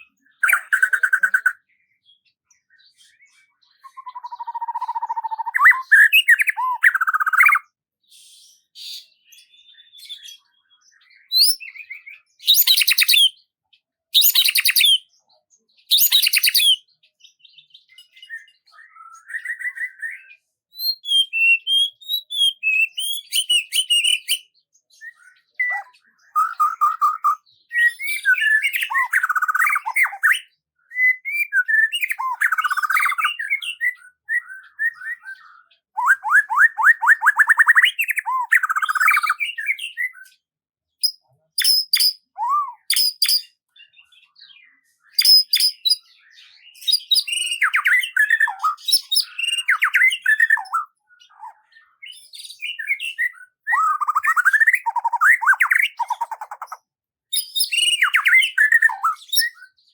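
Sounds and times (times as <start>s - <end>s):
songbirds warbling: 0.0s - 7.8s, 8.6s - 13.5s, 14.1s - 15.1s, 15.8s - 17.1s, 20.8s - 40.4s, 41.0s - 59.9s
high bird chirps and chatter: 0.0s - 59.9s.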